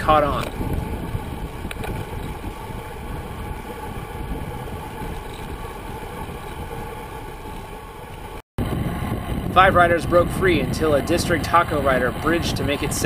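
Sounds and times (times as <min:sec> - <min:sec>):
bicycle road noise: 0:00.0 - 0:13.0
wind rush: 0:00.0 - 0:13.0.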